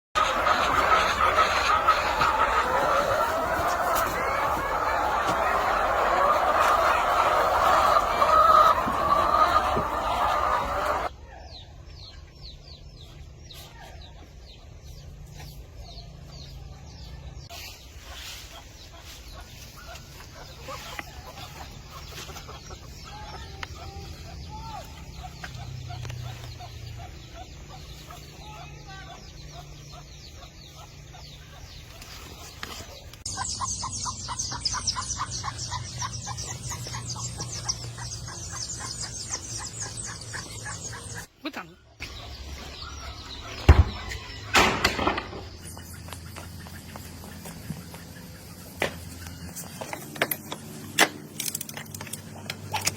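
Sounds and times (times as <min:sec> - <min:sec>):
hens clucking and calling: 0:00.0 - 0:11.2, 0:17.4 - 0:51.0.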